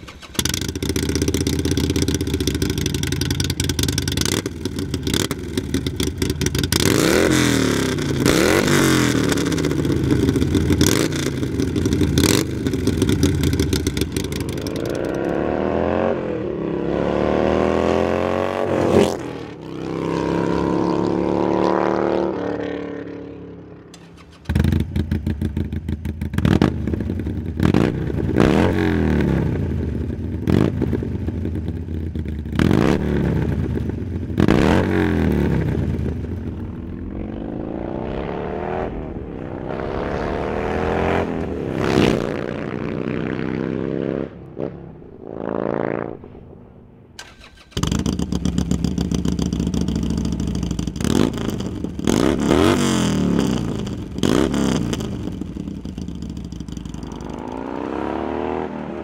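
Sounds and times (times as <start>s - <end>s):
motorcycle engine revving: 0.0s - 59.0s
motorcycle accelerating past: 0.1s - 27.0s, 32.5s - 46.5s, 47.2s - 59.0s.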